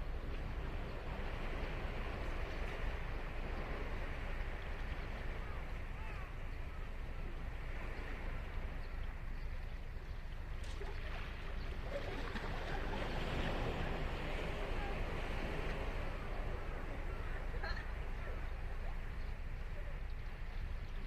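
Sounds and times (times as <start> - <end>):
waves breaking on beach: 0.0 - 21.0.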